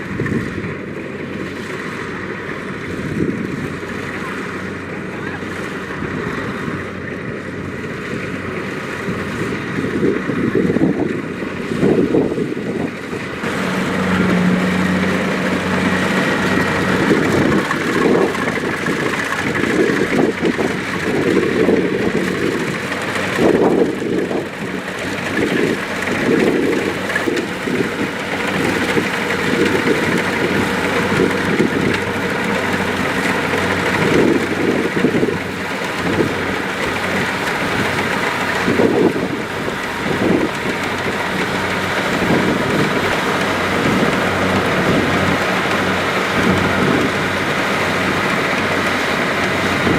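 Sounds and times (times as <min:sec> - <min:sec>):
combine harvester diesel engine: 0:00.0 - 0:49.9.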